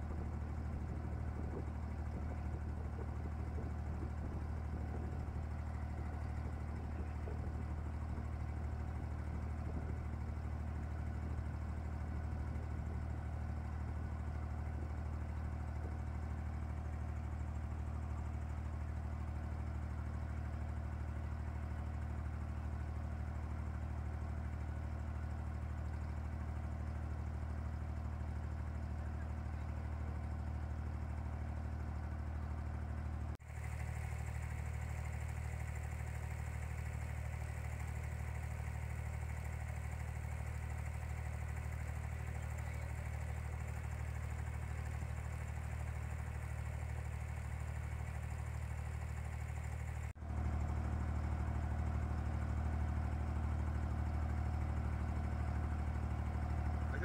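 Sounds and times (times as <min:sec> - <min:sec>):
boat engine drone: 0:00.0 - 0:57.0.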